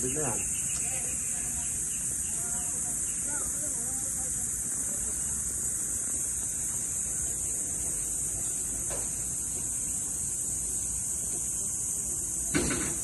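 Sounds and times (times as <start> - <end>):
low voices murmuring: 0.0 - 13.0.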